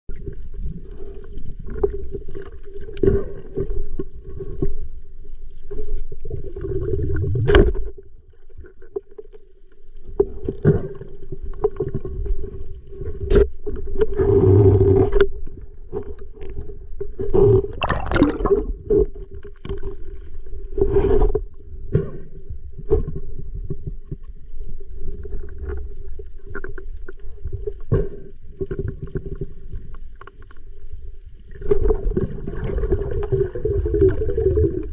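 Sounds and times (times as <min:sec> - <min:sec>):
bubbling and gurgling: 0:00.1 - 0:04.9, 0:05.5 - 0:22.2, 0:22.8 - 0:34.9
muffled underwater rumble: 0:00.1 - 0:34.9.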